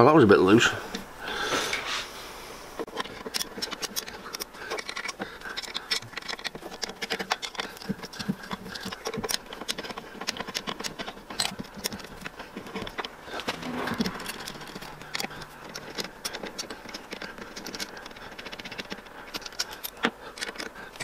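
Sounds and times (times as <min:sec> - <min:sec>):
metal clicks and rattles: 0:02.9 - 0:21.0.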